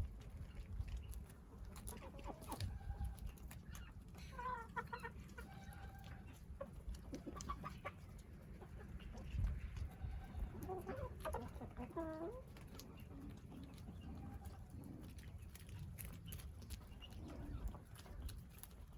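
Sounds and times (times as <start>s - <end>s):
chicken calls: 0.0s - 18.9s
chickens clucking: 0.0s - 18.9s.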